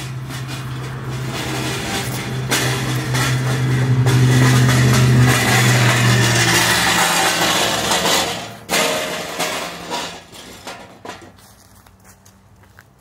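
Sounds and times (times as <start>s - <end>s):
chair scraping across patio: 0.0s - 11.6s.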